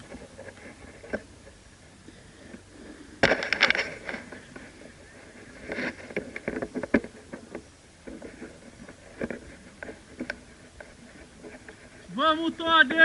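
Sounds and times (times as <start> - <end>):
rustling through dry brush: 0.0 - 13.0.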